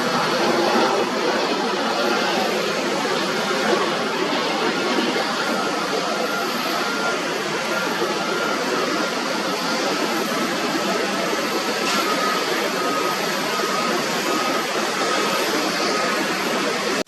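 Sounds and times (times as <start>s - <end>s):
jet airliner engines roaring: 0.0s - 17.0s.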